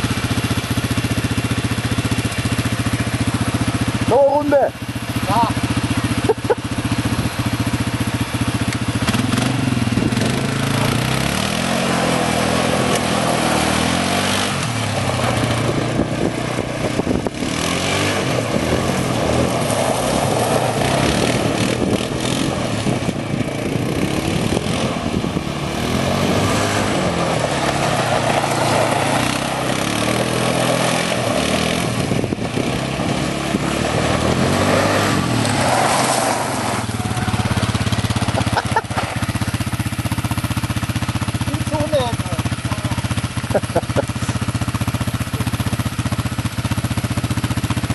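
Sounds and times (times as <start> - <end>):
quad engine revving: 0.0 - 47.9.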